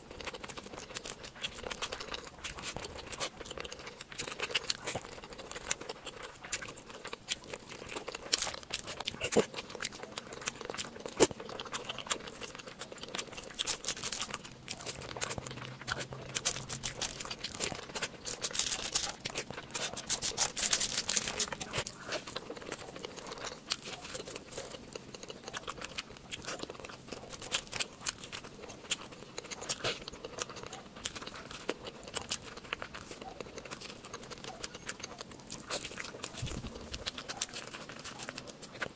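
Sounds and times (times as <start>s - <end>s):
close chewing with mouth clicks: 0.0s - 38.9s.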